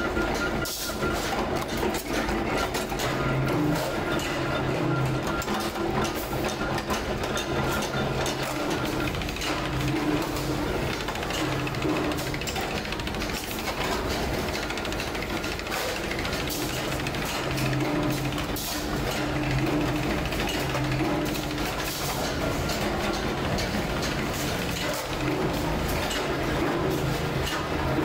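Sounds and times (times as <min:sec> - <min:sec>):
roller machine clattering: 0:00.0 - 0:28.0.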